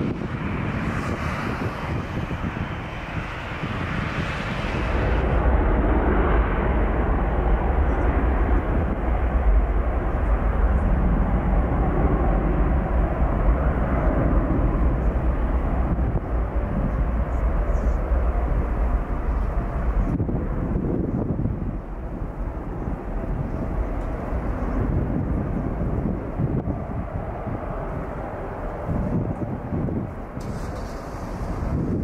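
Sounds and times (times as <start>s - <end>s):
jet airliner roaring: 0.0s - 32.0s.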